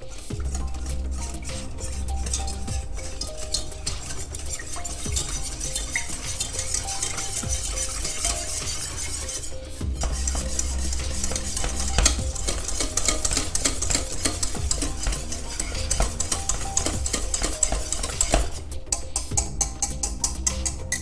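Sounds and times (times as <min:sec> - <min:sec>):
whisk clicking and scraping in pan: 0:00.0 - 0:21.0.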